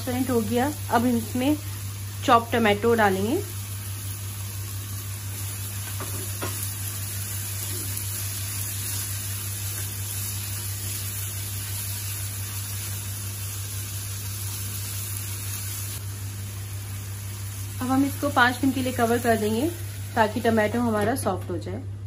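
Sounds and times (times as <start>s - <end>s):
vegetables sizzling in oil: 0.0s - 21.3s.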